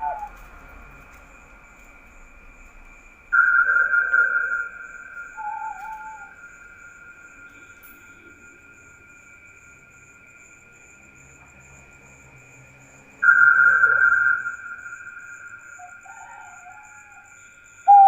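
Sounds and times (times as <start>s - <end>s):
night insects droning: 0.0s - 18.0s.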